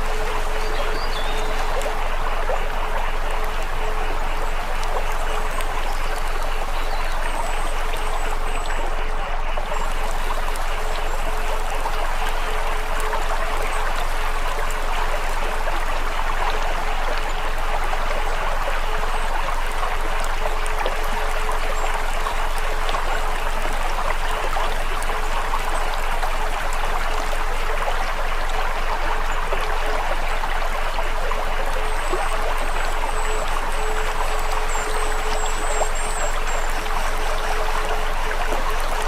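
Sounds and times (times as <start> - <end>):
faint steady hum: 0.0 - 39.0
rushing stream: 0.0 - 39.0.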